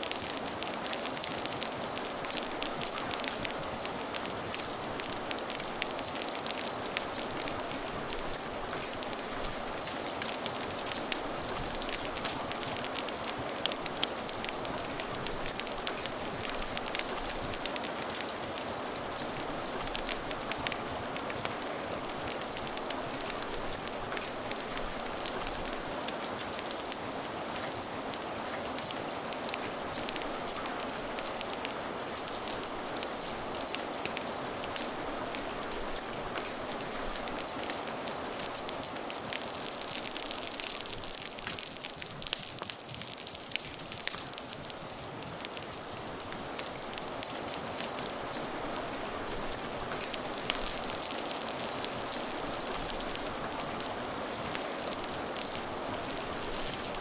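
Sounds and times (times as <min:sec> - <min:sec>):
fire crackling: 0:00.0 - 0:57.0
steady rain: 0:00.0 - 0:57.0.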